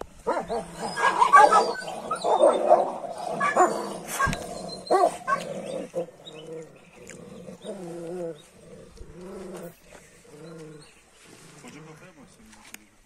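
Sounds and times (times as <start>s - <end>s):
dogs yelping and whining: 0.2s - 11.1s.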